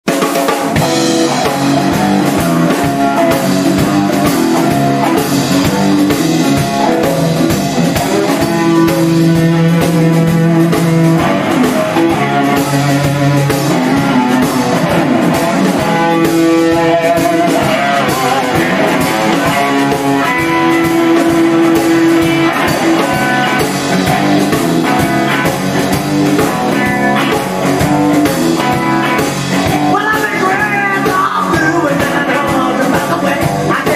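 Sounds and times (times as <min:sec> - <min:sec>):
instrumental rock music: 0:00.0 - 0:33.9.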